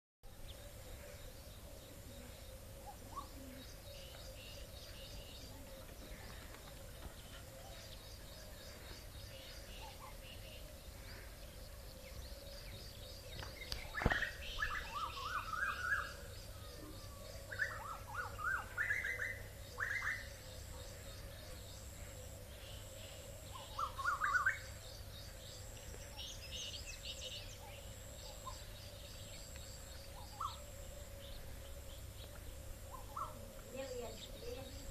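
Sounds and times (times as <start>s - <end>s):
faint steady hum: 0.2s - 34.9s
birds chirping and calling: 0.3s - 34.9s.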